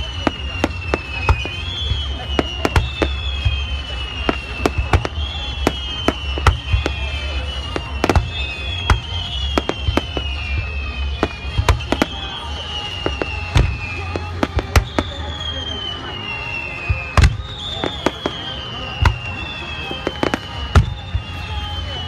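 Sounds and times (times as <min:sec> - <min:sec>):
fireworks bangs: 0:00.0 - 0:22.0
fireworks crackling pops: 0:00.0 - 0:22.0.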